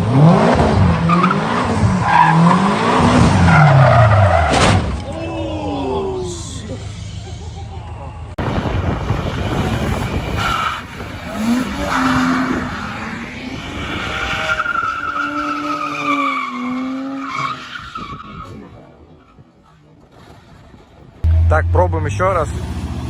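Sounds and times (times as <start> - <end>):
car tyres squealing: 0.2 - 8.2, 9.1 - 21.0.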